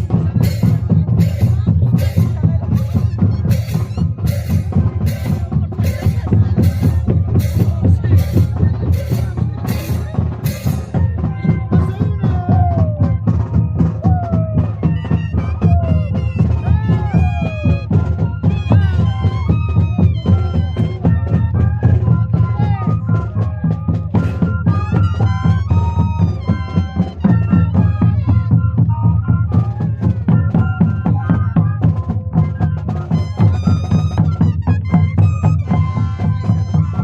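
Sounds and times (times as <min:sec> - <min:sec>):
drum strokes: 0:00.0 - 0:37.0
large cane flutes: 0:00.0 - 0:37.0.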